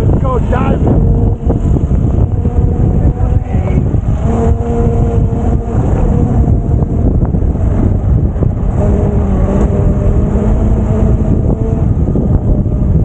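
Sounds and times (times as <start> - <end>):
wind buffeting microphone: 0.0 - 13.0
electric motor whine: 0.4 - 13.0.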